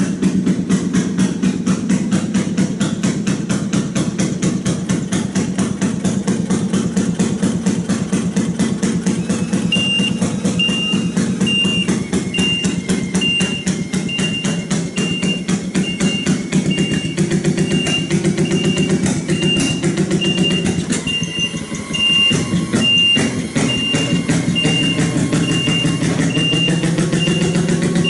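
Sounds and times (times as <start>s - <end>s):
two-stroke engine running: 0.0s - 28.0s.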